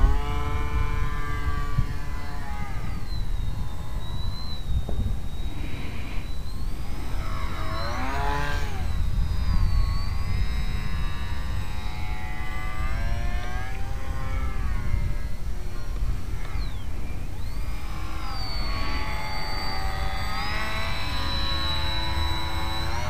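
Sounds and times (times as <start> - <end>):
model plane motor and propeller: 0.0 - 23.0.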